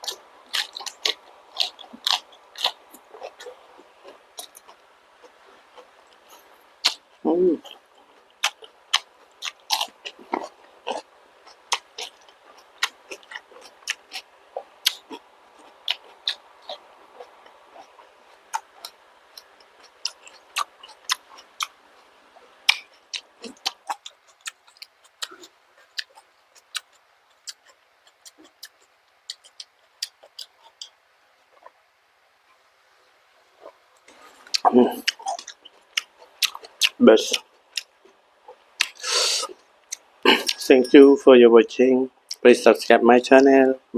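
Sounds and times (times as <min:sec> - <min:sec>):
wet chewing and lip smacks: 0:00.0 - 0:07.0, 0:07.6 - 0:31.8, 0:33.6 - 0:40.6.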